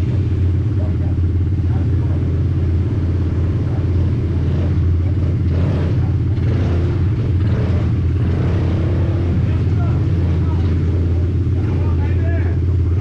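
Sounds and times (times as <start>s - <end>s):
quad bike engine droning: 0.0s - 13.0s.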